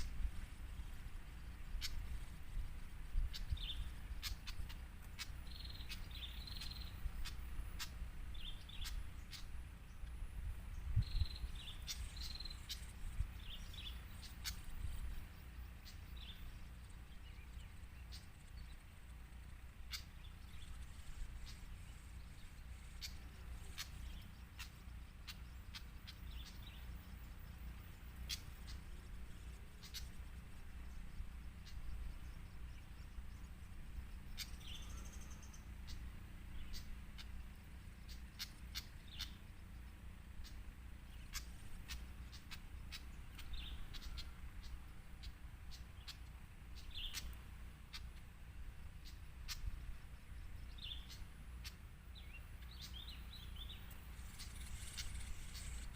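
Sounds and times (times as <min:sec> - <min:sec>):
small birds chirping: 0:00.0 - 0:55.9
steady low rumble: 0:00.0 - 0:55.9.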